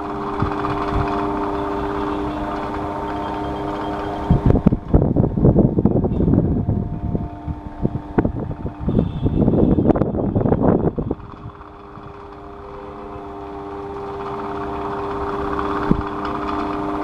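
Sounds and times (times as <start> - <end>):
electric fan humming: 0.0 - 17.0
fan wind buffeting microphone: 0.0 - 17.0.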